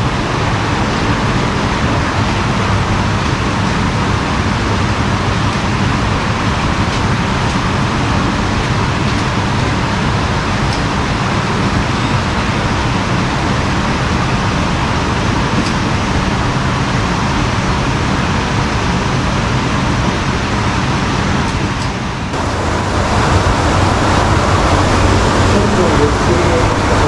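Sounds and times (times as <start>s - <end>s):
water rushing in a canal: 0.0s - 27.0s.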